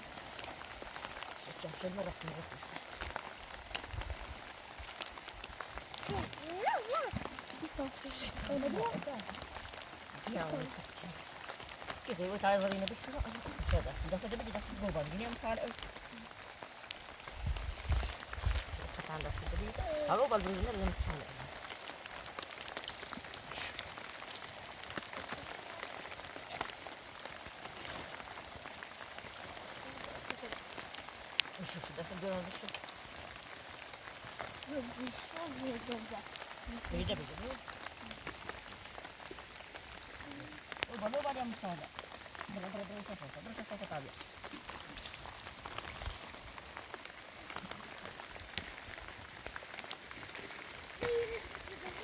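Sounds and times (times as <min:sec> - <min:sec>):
rain falling: 0:00.0 - 0:52.0
raindrops tapping: 0:00.0 - 0:52.0.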